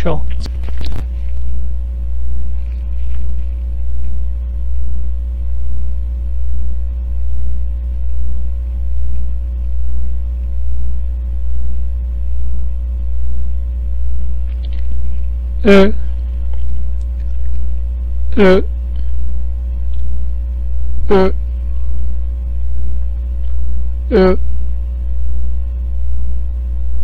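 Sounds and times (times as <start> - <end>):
pulsing electrical hum: 0.0 - 27.0.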